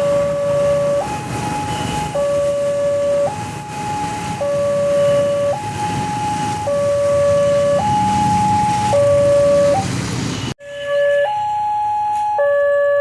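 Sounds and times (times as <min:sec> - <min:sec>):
two-tone level-crossing alarm: 0:00.0 - 0:09.9, 0:10.6 - 0:13.0.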